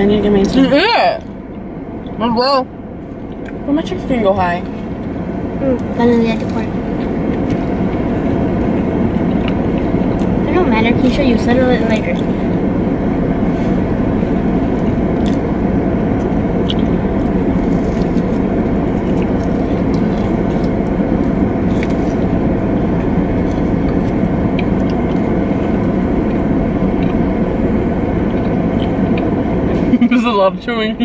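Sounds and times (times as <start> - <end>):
car running inside cabin: 0.0 - 31.0
people chewing: 3.1 - 3.6, 4.6 - 30.2.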